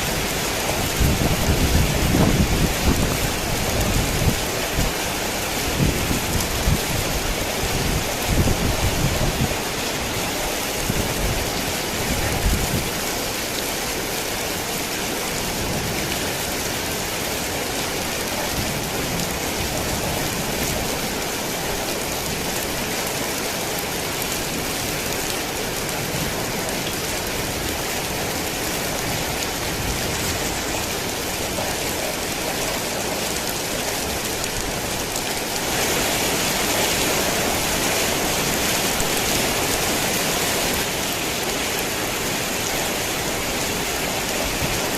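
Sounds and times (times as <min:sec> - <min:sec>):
heavy rain hiss: 0:00.0 - 0:44.9.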